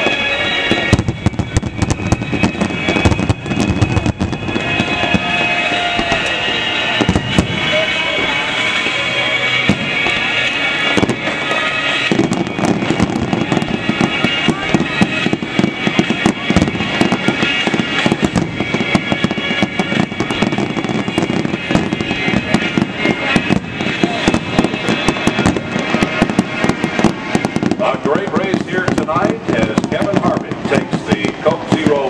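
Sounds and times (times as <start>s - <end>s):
fireworks popping and crackling: 0.0s - 32.0s
music: 0.0s - 32.0s.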